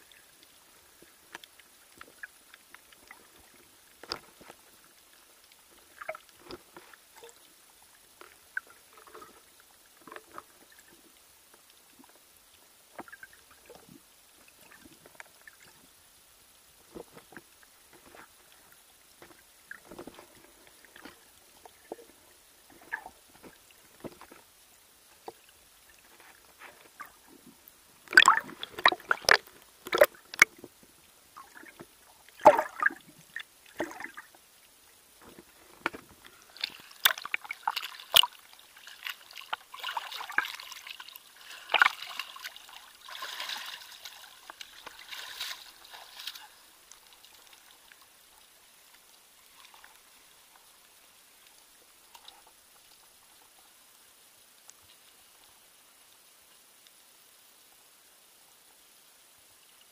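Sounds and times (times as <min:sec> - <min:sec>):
water sloshing underwater: 0:00.0 - 0:57.6.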